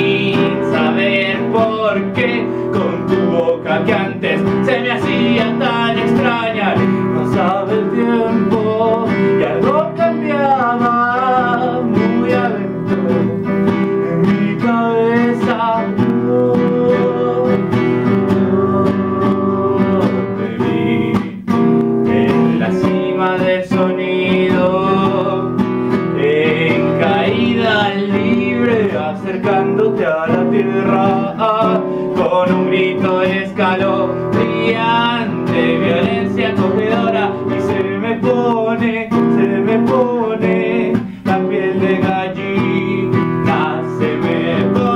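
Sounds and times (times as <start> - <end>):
acoustic guitar strumming: 0.0 - 44.9
man singing: 0.0 - 44.9.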